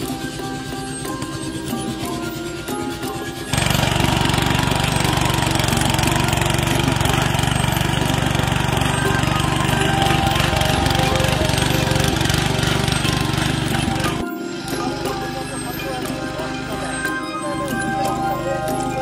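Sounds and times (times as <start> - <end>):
small petrol engine running: 0.0 - 19.0
tines churning soil: 0.0 - 19.0.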